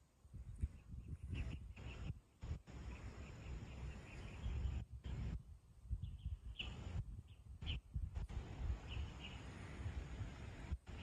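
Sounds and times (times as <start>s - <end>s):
gusty wind rumble: 0.2s - 11.0s.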